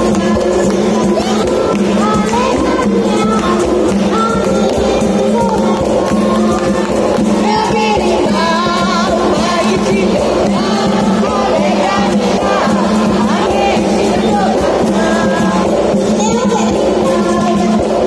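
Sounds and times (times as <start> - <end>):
group singing: 0.0 - 18.0
percussion: 0.0 - 18.0.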